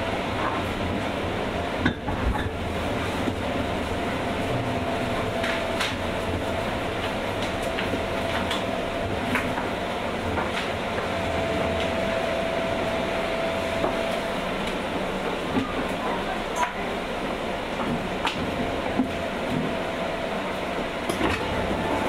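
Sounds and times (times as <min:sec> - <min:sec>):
train running on rails: 0:00.0 - 0:22.0.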